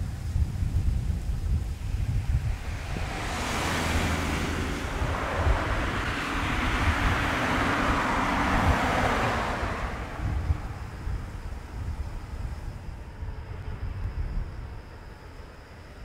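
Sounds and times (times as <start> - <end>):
wind buffeting microphone: 0.0 - 16.0
jet engines running: 1.6 - 15.9.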